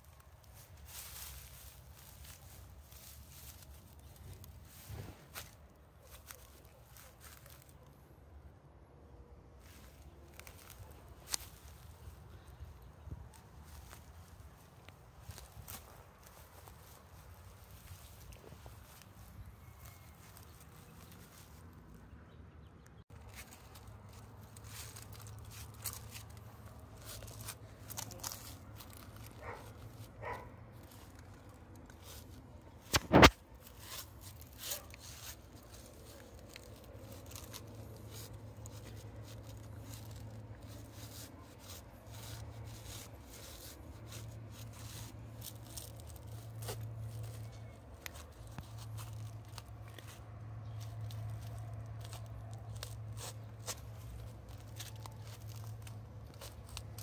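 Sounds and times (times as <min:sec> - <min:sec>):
footsteps on rock and dry leaves: 0:00.0 - 0:07.9, 0:09.6 - 0:22.2, 0:23.1 - 0:57.0.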